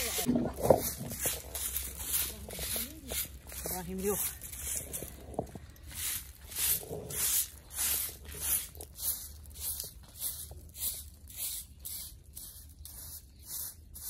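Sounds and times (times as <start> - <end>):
twig broom sweeping dirt: 0.0 - 14.0.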